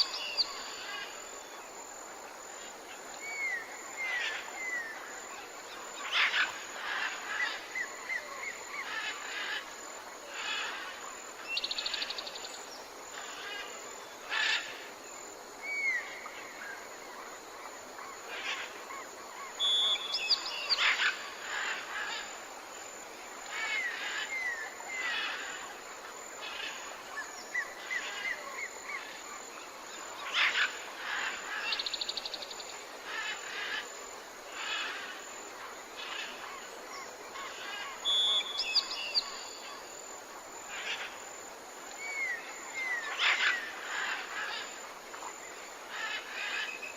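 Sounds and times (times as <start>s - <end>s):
steady soft hiss: 0.0s - 46.9s.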